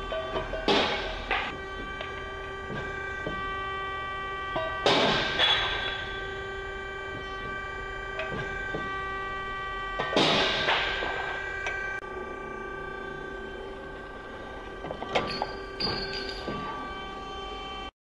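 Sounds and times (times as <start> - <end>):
hydraulic pump hum: 0.0 - 17.9.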